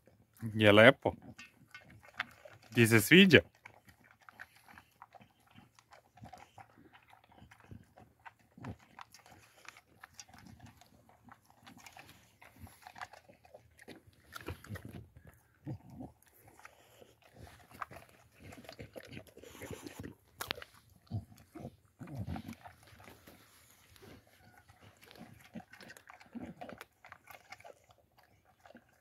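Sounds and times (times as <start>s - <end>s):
dog eating from steel bowl: 0.0s - 29.0s.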